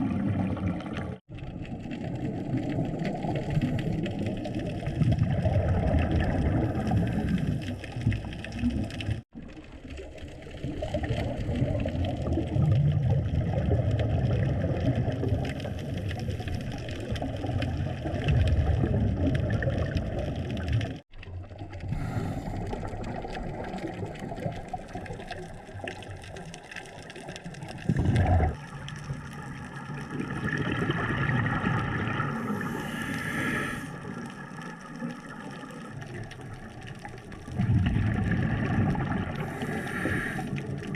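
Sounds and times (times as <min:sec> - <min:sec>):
low underwater rumble: 0:00.0 - 0:40.9
scuba bubbles gurgling: 0:00.0 - 0:40.9.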